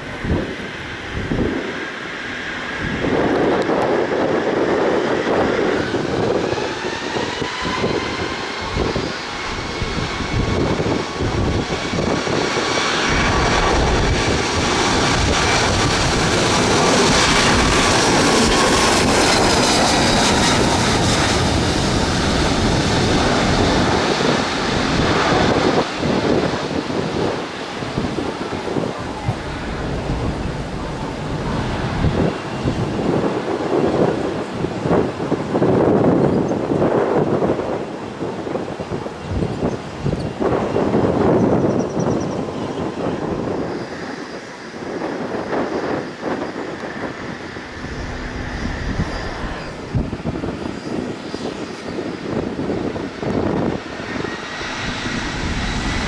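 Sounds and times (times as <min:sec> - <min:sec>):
jet airliner engine whine: 0:00.0 - 0:56.0.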